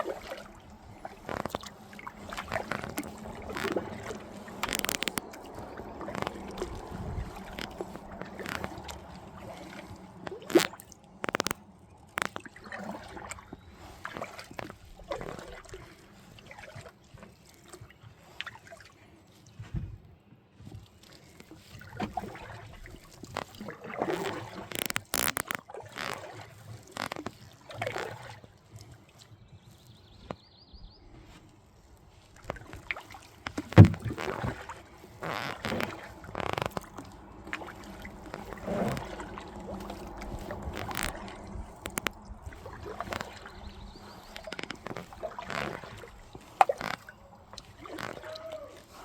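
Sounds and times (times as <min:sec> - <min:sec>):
kayak paddle splashing in water: 0:00.0 - 0:19.0, 0:20.9 - 0:29.2, 0:31.3 - 0:49.0.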